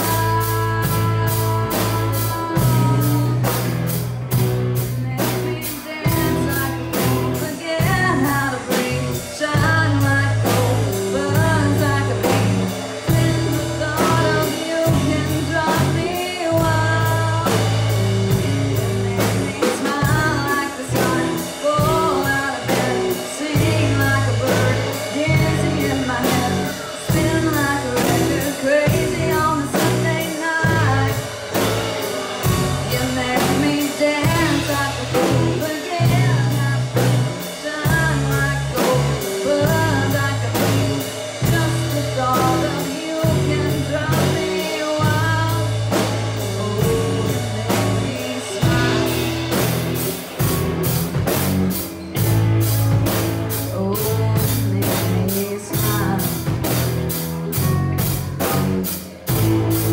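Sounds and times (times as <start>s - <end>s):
person singing: 0.0s - 52.3s, 53.0s - 59.9s
bass notes: 0.0s - 59.9s
drum kit beat: 0.0s - 59.9s
guitar: 0.0s - 59.9s.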